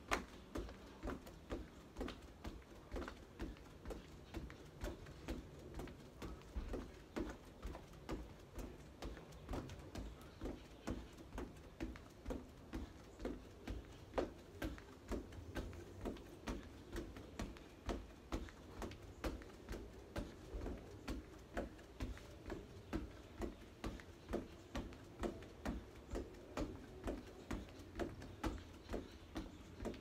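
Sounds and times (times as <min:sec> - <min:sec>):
feet thudding on wooden deck: 0:00.0 - 0:30.0.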